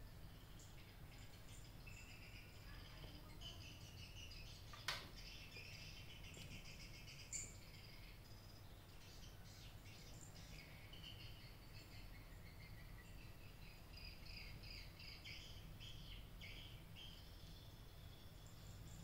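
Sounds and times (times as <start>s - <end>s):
faint high-pitched chirps: 0.0s - 19.0s.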